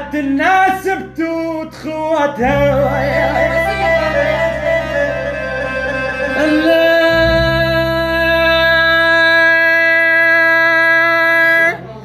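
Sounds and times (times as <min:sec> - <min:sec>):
man singing melismatic line: 0:00.0 - 0:12.0.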